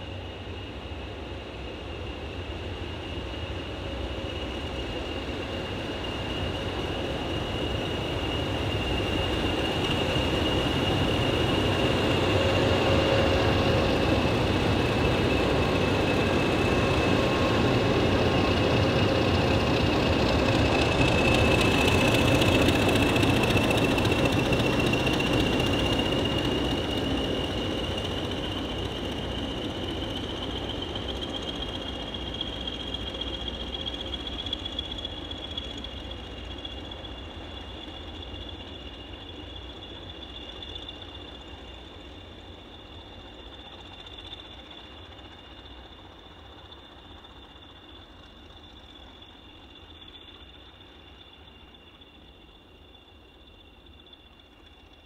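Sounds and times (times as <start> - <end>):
steady high-pitched whine: 0.0 - 55.0
locomotive engine rumble: 6.1 - 51.7.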